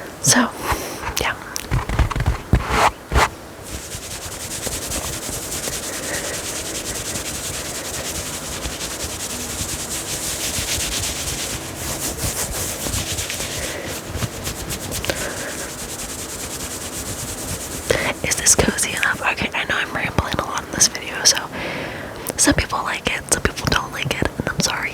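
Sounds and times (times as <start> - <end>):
fingers scratching knit fabric: 0.3 - 21.0.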